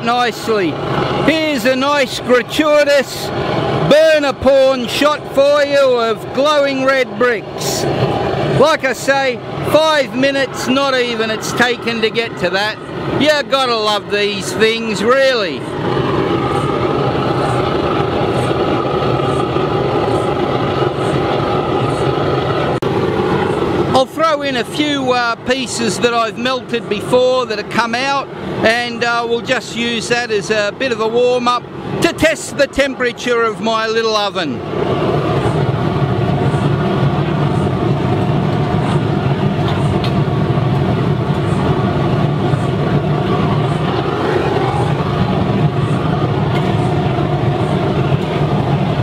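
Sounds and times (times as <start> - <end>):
burner flame rushing: 0.0 - 29.8, 31.0 - 49.0.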